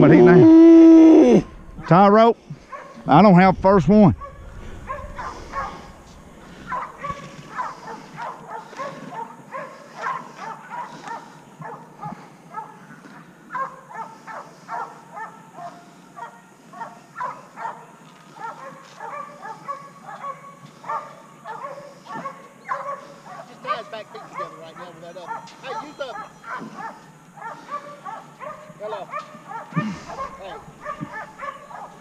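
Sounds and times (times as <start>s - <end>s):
dog barking and yipping: 2.6s - 3.0s, 4.2s - 12.8s, 13.5s - 32.0s.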